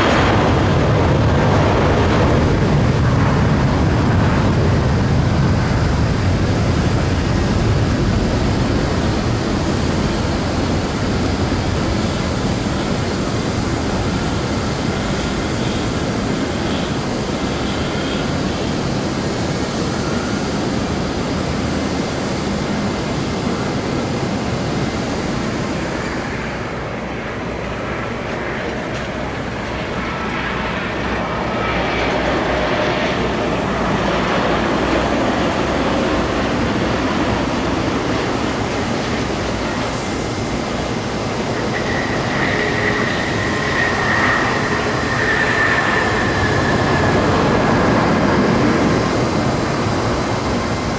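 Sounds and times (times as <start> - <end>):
jet airliner engines rumbling: 0.0 - 50.9.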